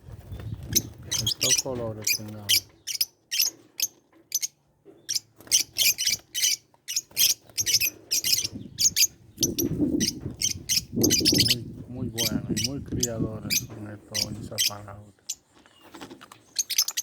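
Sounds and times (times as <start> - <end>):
lovebirds chirping: 0.2 - 17.0.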